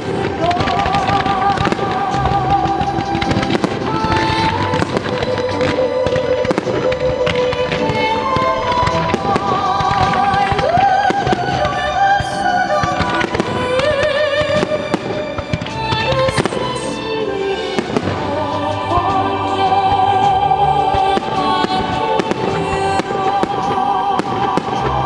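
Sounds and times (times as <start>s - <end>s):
fireworks bursting and crackling: 0.0s - 25.0s
warped show music: 0.0s - 25.0s.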